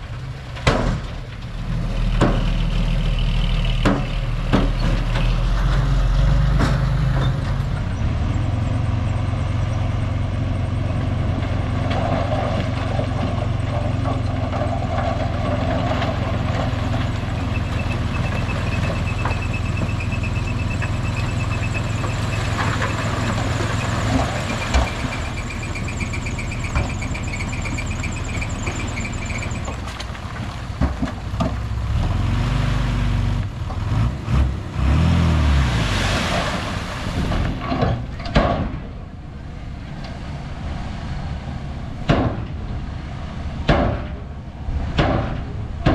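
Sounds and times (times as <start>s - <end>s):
diesel machinery running: 0.0s - 45.9s.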